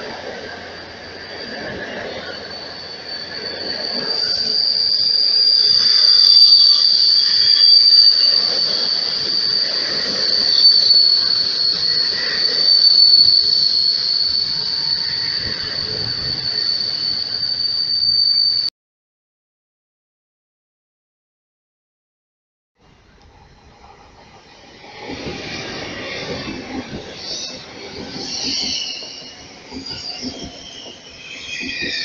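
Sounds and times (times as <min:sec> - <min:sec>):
train rolling rumble: 0:00.0 - 0:17.9, 0:22.8 - 0:32.0
train wheels and brakes squealing: 0:00.0 - 0:18.7, 0:23.0 - 0:32.0.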